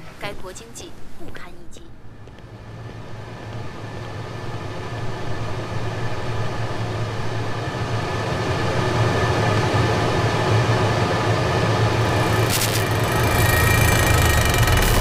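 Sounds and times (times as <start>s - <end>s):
industrial exhaust fan humming: 1.9s - 15.0s.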